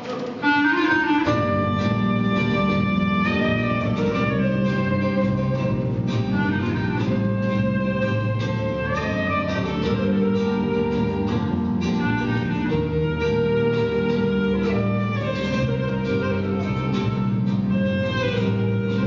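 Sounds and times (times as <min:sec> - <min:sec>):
flamenco guitar: 0:00.0 - 0:19.0
clarinet melody: 0:00.4 - 0:19.0
double bass: 0:00.6 - 0:19.0.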